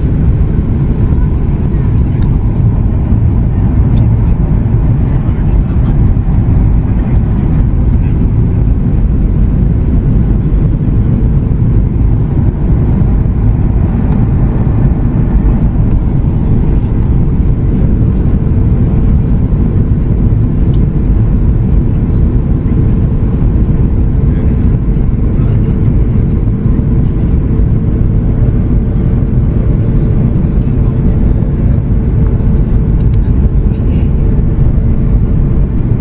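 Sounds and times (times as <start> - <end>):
airplane cabin engine and airflow rush: 0.0 - 36.0.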